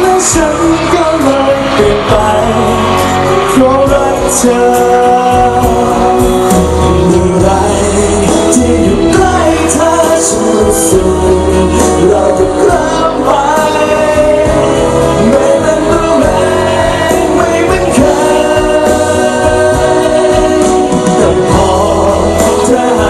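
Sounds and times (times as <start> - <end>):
live pop band backing: 0.0 - 23.0
man singing into a microphone: 0.0 - 23.0.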